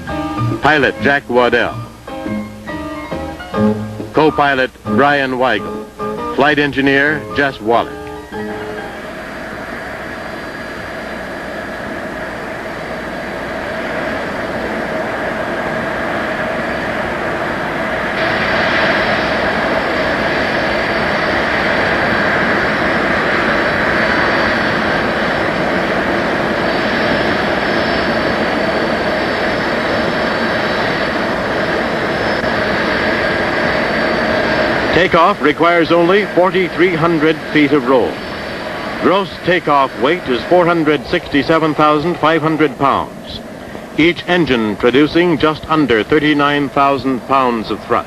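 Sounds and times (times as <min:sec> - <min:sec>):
jet engines running: 0:00.0 - 0:48.0.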